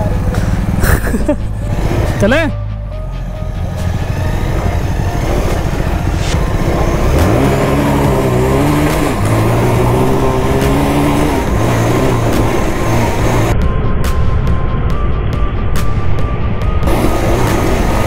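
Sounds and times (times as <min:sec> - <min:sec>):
motorcycle engine: 0:00.0 - 0:13.8, 0:16.8 - 0:18.0
wind and ride noise: 0:00.0 - 0:18.0.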